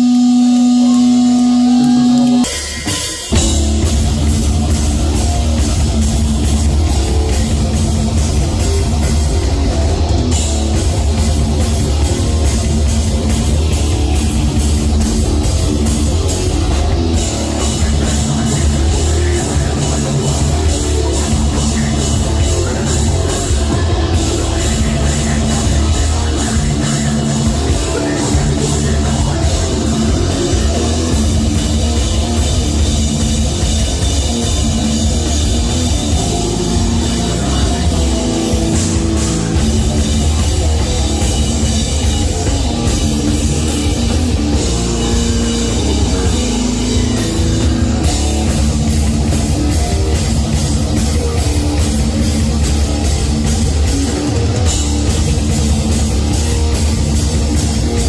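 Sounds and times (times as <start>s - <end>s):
distorted electric guitars: 0.0s - 58.0s
live heavy metal band: 0.0s - 58.0s
pounding drum kit: 0.0s - 58.0s.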